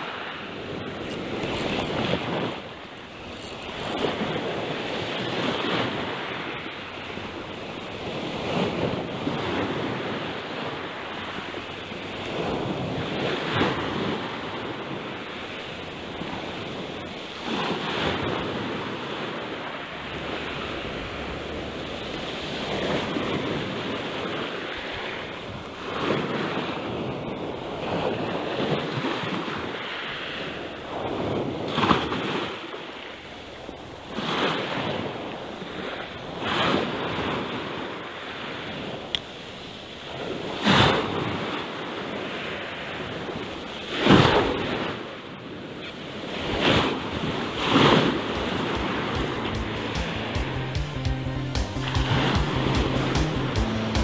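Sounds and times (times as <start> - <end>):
waves breaking on rocky shore: 0.0 - 50.4.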